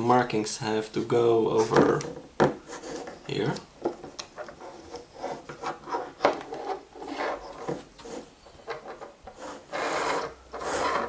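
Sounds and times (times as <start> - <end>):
wires and parts handled on bench: 1.6 - 11.0.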